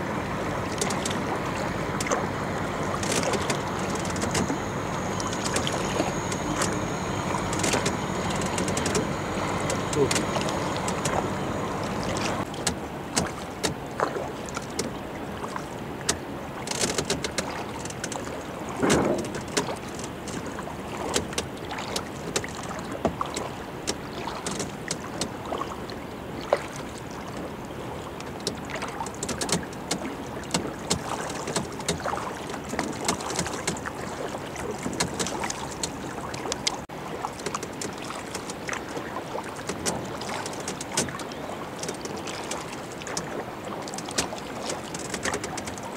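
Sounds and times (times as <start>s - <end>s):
paddle splashes and drips: 0.0s - 45.9s
water washing along hull: 0.0s - 45.9s.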